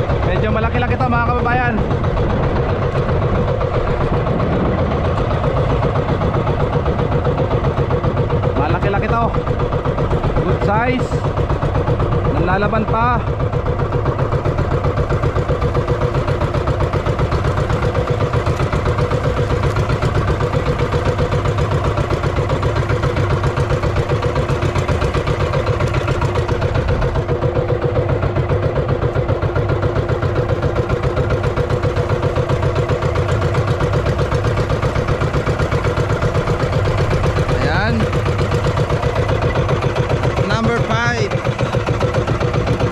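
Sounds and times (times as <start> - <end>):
boat engine chugging: 0.0 - 42.9.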